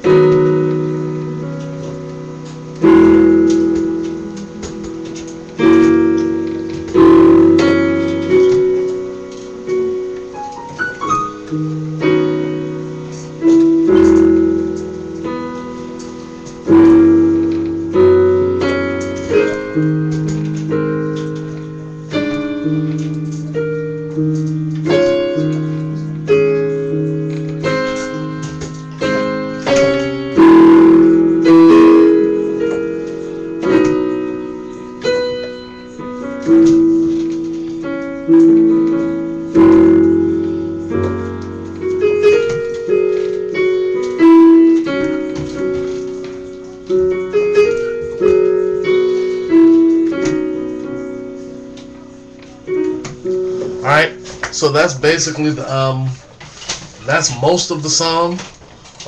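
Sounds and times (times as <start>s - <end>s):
synthesizer playing gospel chords: 0.0s - 56.4s.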